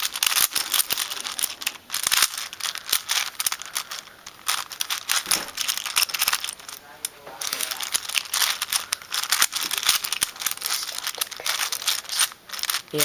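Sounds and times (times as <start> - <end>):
puzzle cube clicking and rattling: 0.0 - 13.0.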